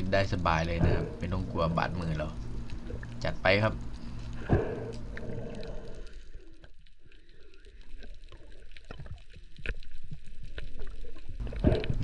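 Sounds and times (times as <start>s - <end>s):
faint clicks and crackles: 0.0s - 12.0s
muffled underwater rumble: 0.0s - 12.0s.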